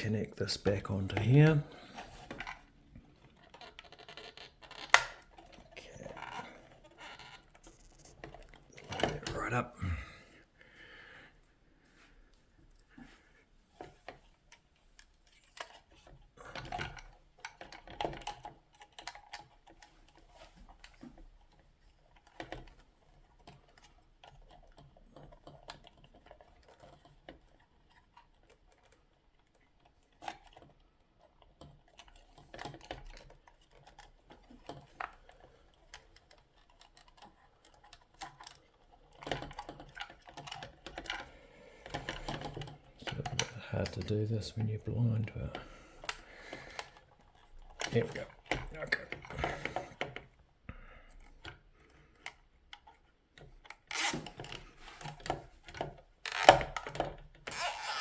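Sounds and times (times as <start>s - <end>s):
small plastic clicks and rattles: 0.7s - 9.4s, 13.7s - 58.0s.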